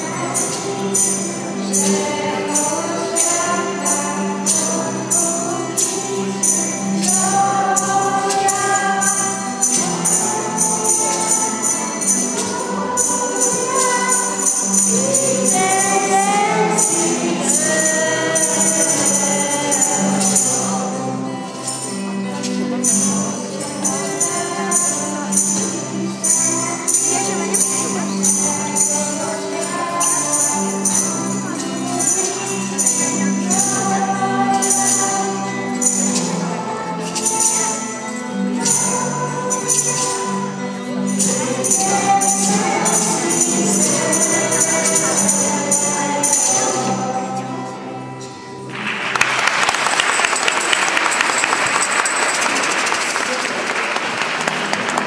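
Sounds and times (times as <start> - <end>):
children and adults singing a carol: 0.0 - 48.7
jingling percussion: 0.0 - 55.0.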